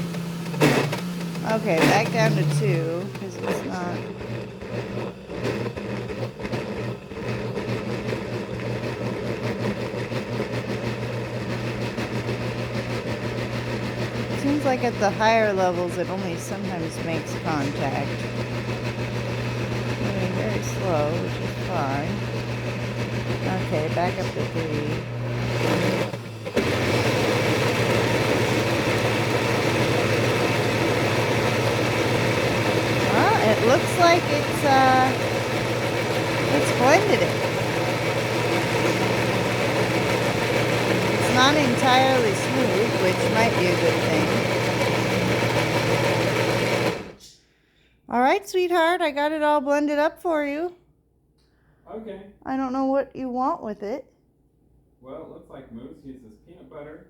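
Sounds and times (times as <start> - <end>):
blender motor humming: 0.0 - 47.3.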